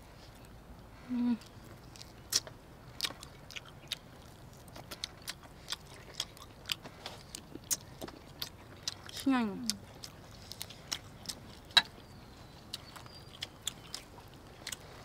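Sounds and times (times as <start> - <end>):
crunchy chewing of fried chicken: 0.0 - 15.0.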